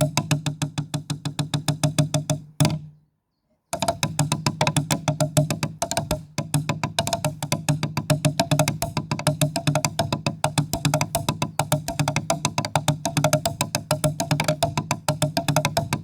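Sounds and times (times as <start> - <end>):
fast sharp percussion strikes: 0.0 - 2.8, 3.8 - 16.0.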